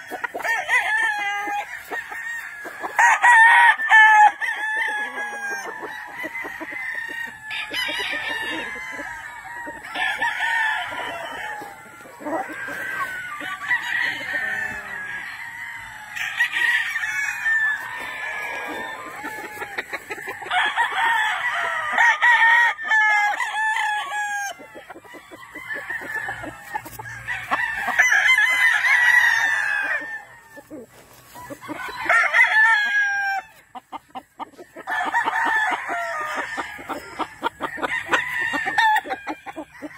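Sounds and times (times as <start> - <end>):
chickens clucking: 0.0 - 16.2, 16.9 - 21.9, 23.2 - 39.9
roosters crowing: 0.0 - 39.9.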